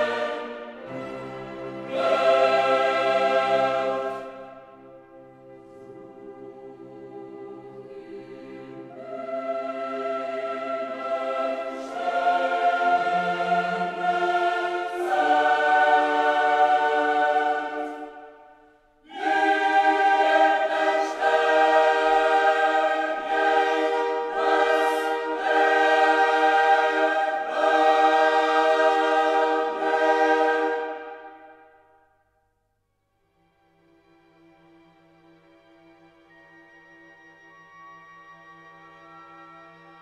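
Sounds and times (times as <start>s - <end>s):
choir singing held chords: 0.0s - 32.2s.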